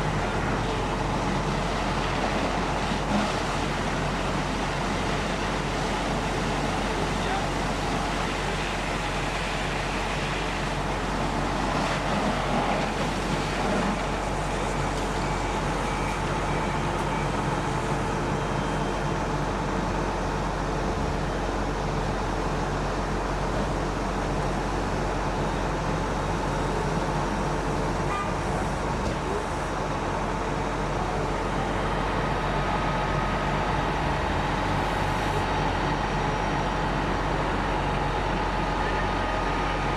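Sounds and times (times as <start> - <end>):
fire engines running: 0.0 - 39.9.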